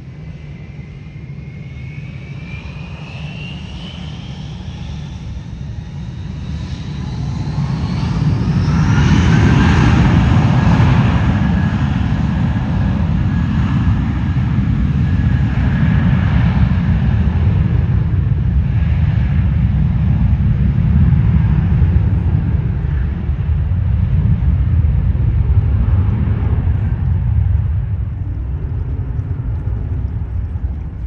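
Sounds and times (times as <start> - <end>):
jet engines at takeoff power: 0.0 - 31.0.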